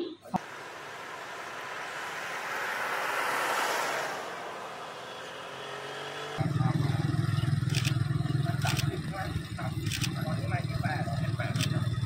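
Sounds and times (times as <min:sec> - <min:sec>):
low engine drone: 0:00.3 - 0:12.0
vehicle passing: 0:00.4 - 0:12.0.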